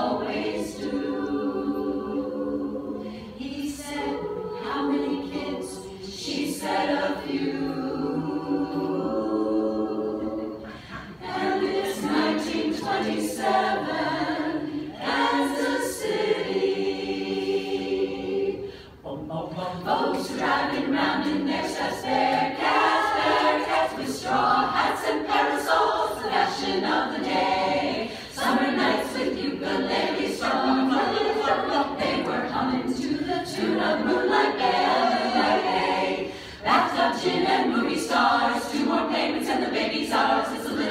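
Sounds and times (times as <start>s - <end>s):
women's chorus singing a cappella: 0.0s - 40.9s.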